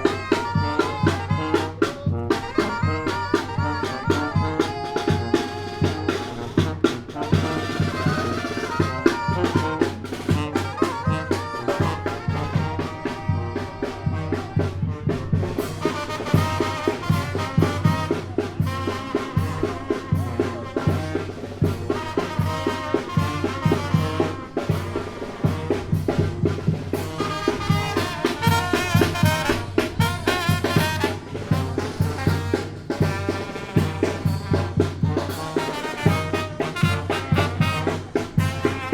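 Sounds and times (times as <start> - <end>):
trumpets and trombones: 0.0 - 38.9.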